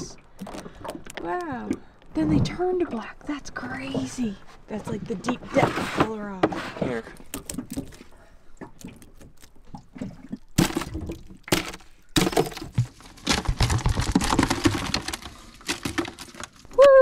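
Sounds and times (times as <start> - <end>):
prawns clattering and splashing: 0.0 - 16.7.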